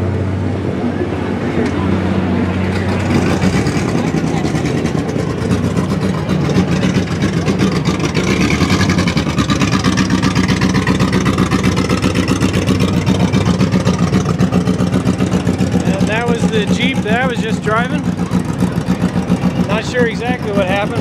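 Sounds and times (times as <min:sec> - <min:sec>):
pickup truck engines running: 0:00.0 - 0:21.0.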